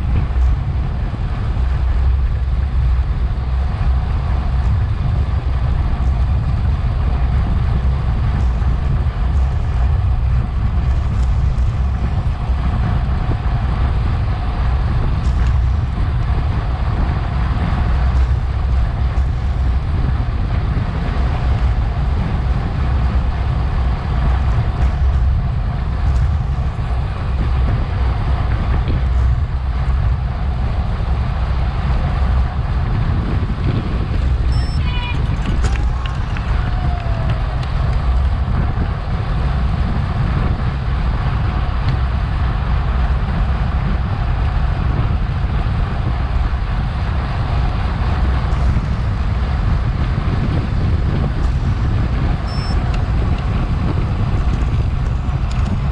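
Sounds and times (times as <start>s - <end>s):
road rumble: 0.0s - 55.9s
wind rush: 0.0s - 55.9s.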